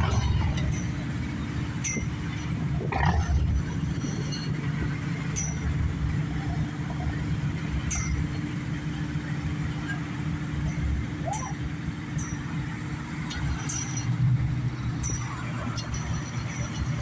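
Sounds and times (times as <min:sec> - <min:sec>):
vehicles driving past: 0:00.0 - 0:17.0.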